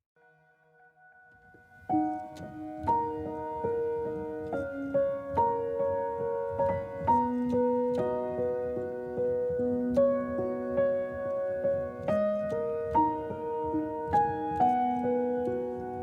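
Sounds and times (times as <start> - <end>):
gentle piano music: 1.0 - 16.0.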